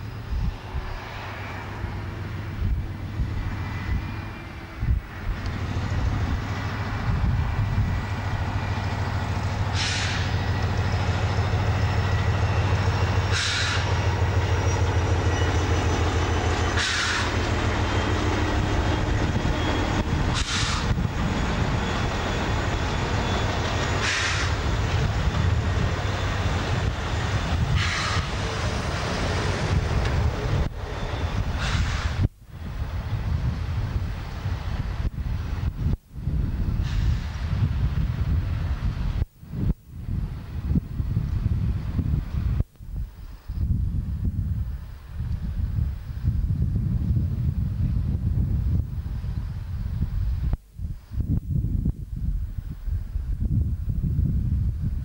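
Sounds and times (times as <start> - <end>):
diesel locomotive droning: 0.0 - 55.0.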